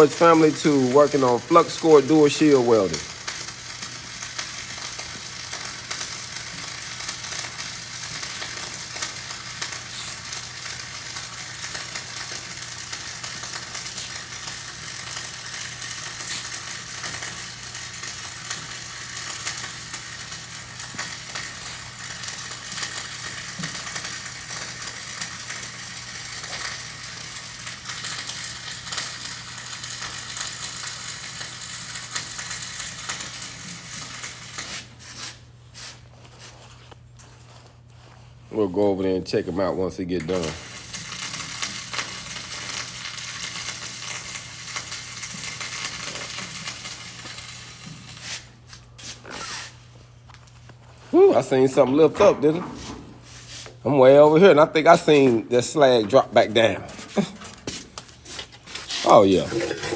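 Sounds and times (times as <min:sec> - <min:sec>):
welding arc crackling: 0:00.0 - 0:59.9.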